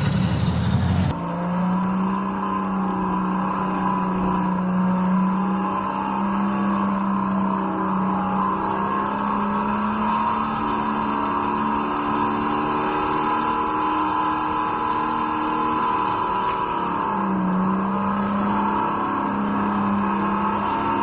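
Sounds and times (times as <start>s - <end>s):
go-kart engine running: 0.0s - 21.0s.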